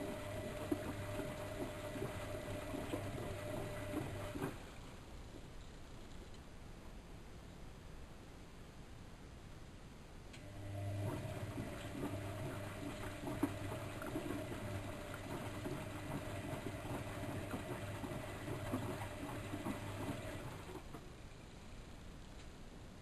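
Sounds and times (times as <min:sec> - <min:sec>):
washing machine electric hum: 0:00.0 - 0:06.1, 0:10.2 - 0:23.0.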